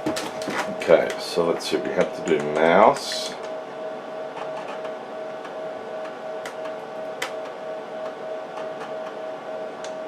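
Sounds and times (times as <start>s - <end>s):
oscilloscope fan hum and whine: 0.0s - 10.0s.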